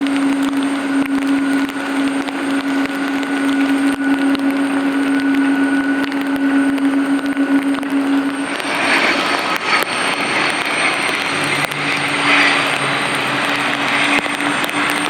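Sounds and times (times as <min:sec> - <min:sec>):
jet engines idling: 0:00.0 - 0:15.0.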